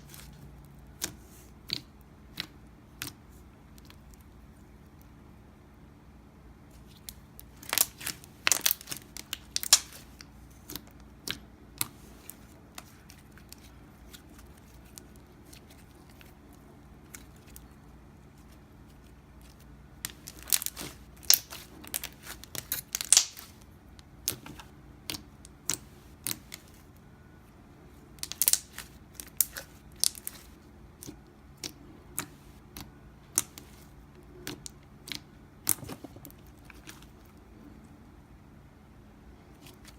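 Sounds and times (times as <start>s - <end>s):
slime squishing with sticky pops: 0.0s - 4.3s, 6.7s - 27.0s, 28.2s - 37.5s.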